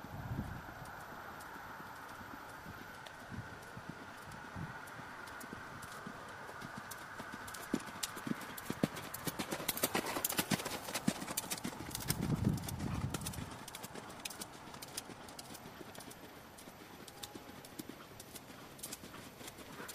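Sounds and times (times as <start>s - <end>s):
horse hoofbeats on sand: 2.2s - 19.9s.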